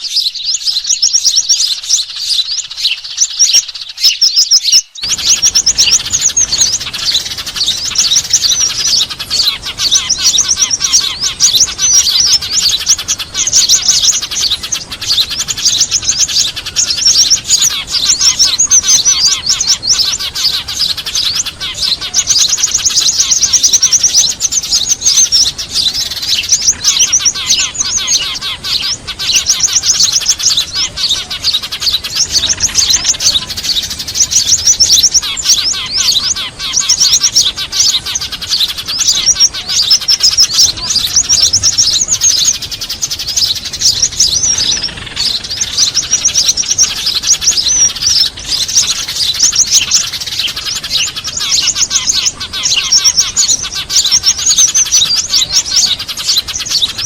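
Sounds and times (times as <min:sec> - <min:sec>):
small birds chattering: 0:00.0 - 0:57.0.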